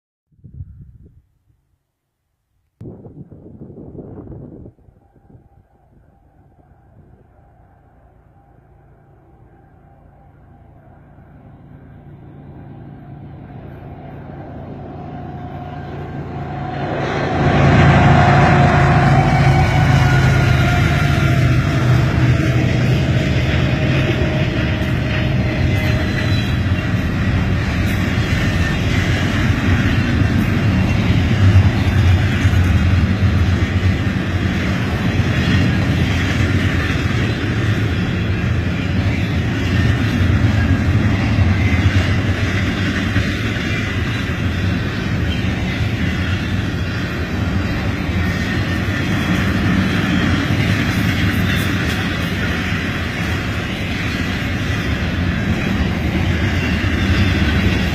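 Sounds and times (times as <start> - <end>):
train wheels rumbling on rails: 11.0 - 57.9.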